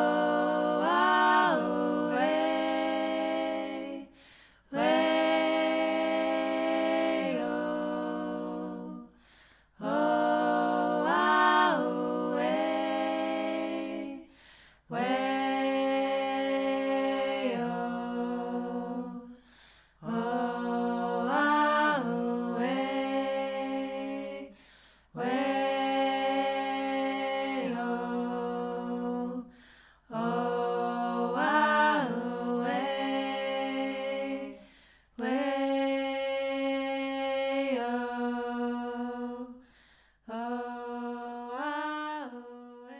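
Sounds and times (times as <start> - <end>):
a cappella choir singing chords: 0.0 - 42.9.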